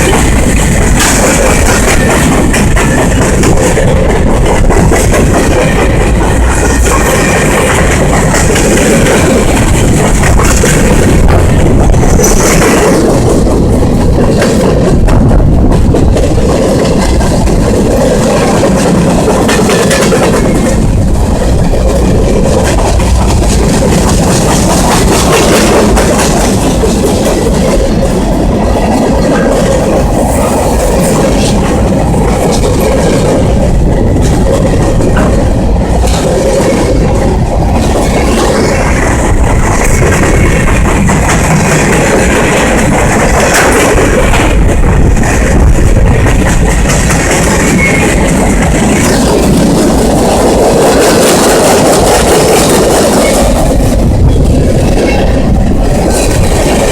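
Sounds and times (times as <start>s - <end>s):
freight train cars rolling past: 0.0s - 56.9s
wheels clacking over rail joints: 0.0s - 56.9s.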